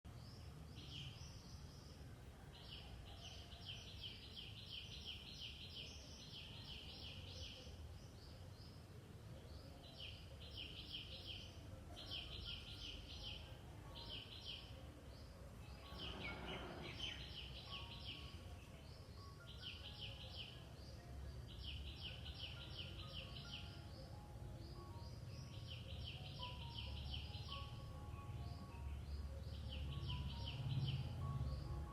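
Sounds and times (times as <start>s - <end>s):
birds and squirrels chirping: 0.0s - 31.9s.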